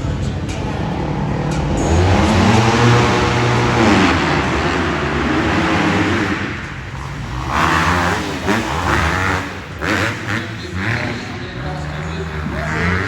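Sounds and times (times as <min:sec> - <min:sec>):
motorbike engines revving: 0:00.0 - 0:13.0.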